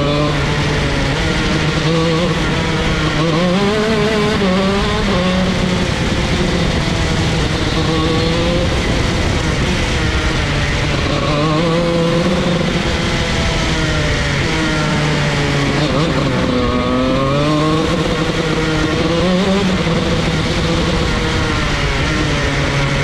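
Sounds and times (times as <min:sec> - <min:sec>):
kart engine revving: 0:00.0 - 0:23.0.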